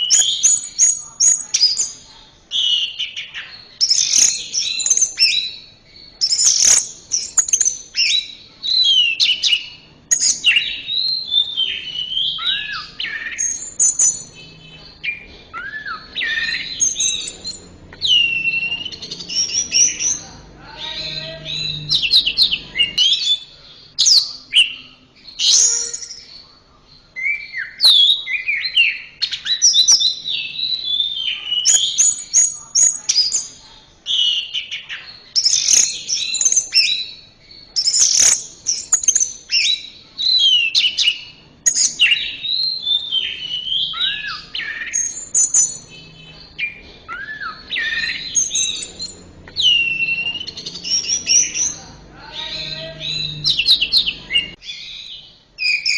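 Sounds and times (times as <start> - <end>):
thrush singing whistled notes: 0.0 - 55.9.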